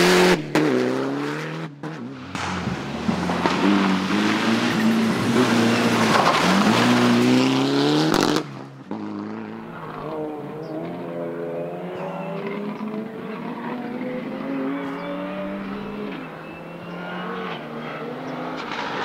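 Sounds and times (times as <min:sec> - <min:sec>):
distant rally car accelerating: 0:00.0 - 0:19.0
rally car engine at full throttle: 0:00.0 - 0:19.0.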